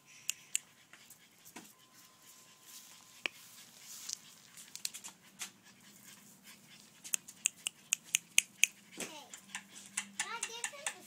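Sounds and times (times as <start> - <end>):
puppies panting: 0.0 - 11.0.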